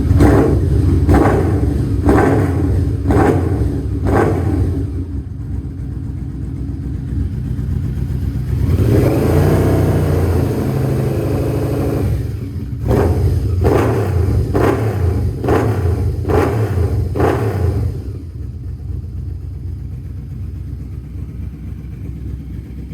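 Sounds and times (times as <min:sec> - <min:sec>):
motorcycle engine idling and revving: 0:00.0 - 0:22.9.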